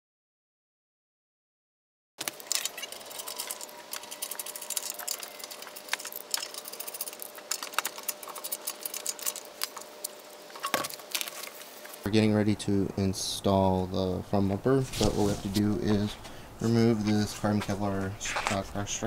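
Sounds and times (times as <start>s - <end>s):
faint steady hum: 2.2s - 19.0s.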